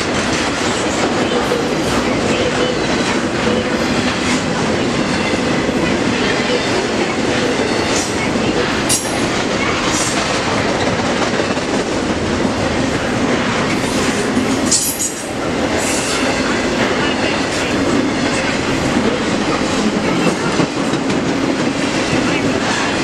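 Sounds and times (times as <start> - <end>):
freight train wheels rumbling on rail: 0.0 - 23.0.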